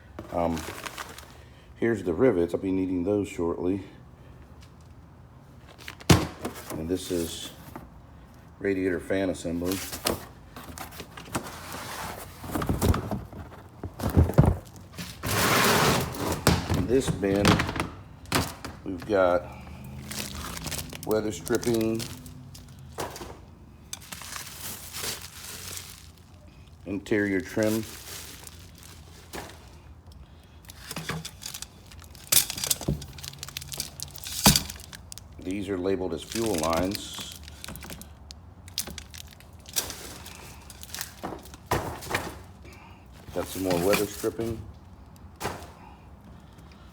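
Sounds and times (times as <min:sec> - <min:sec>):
car parts rustling and clattering: 0:00.0 - 0:01.7, 0:04.4 - 0:46.9.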